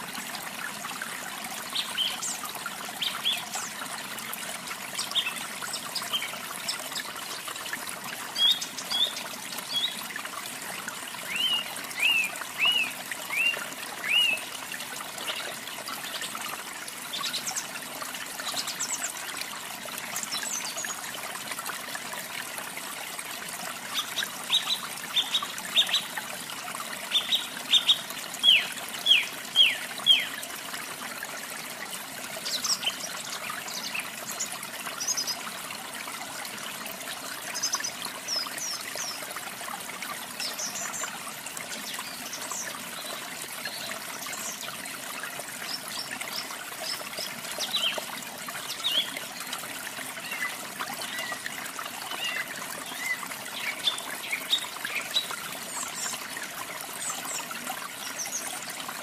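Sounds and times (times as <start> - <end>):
water trickling: 0.0 - 59.0.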